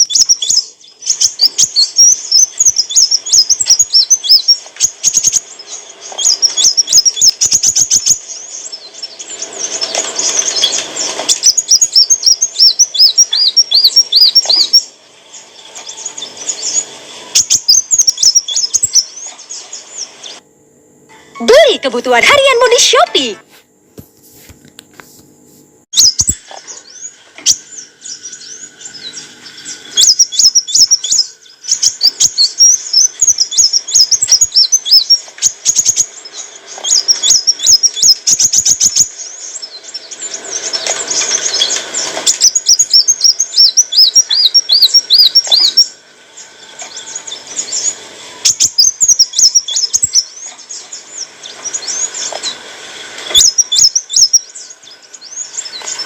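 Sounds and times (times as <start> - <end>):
sunbird twittering chirps: 0.0 - 20.4, 25.9 - 56.0.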